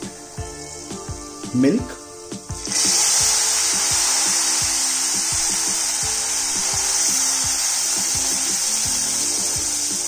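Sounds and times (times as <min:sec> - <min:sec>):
milk sizzling in hot pan: 0:00.0 - 0:10.0.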